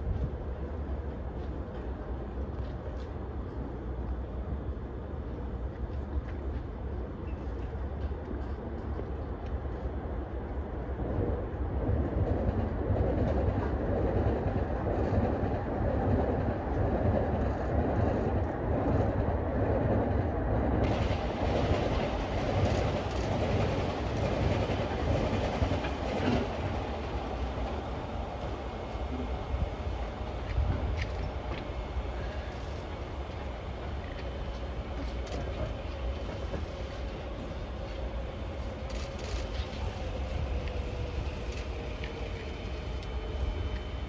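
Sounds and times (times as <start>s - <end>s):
trains rumbling: 0.0s - 44.0s.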